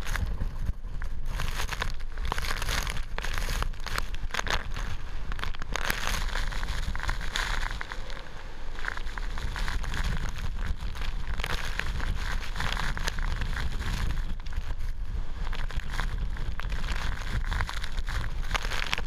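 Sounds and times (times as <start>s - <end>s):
sharp crackles: 0.0s - 19.0s
wind gusts buffeting microphone: 0.0s - 19.0s.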